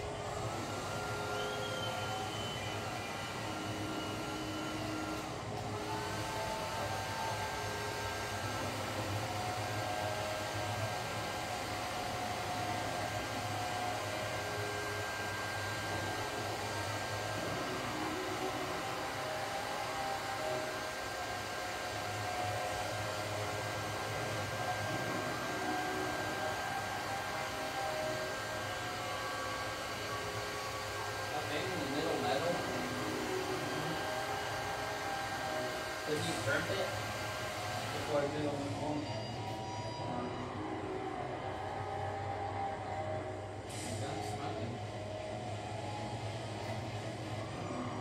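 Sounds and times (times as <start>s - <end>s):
fan whooshing: 0.0s - 38.8s.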